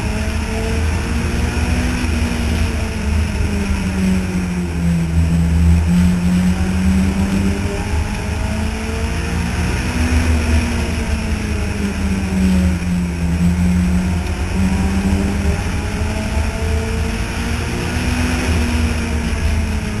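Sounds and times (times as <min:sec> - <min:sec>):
race car engines: 0:00.0 - 0:20.0.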